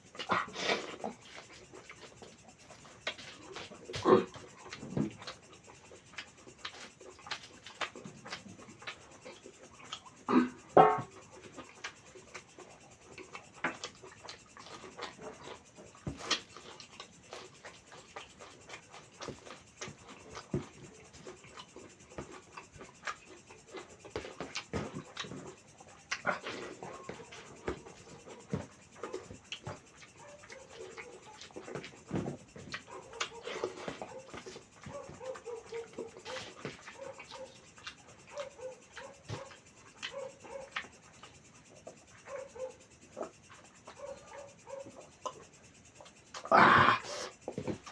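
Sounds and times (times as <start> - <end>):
close-up chewing: 0.0 - 47.9.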